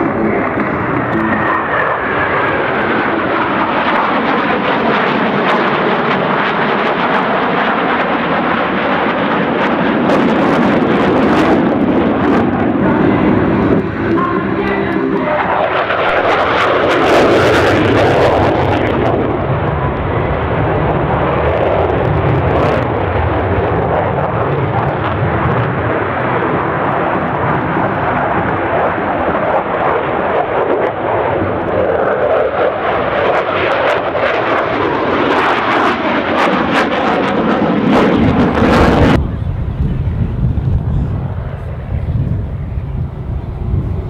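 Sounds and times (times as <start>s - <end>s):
jet engine rush and rumble: 0.0s - 44.0s.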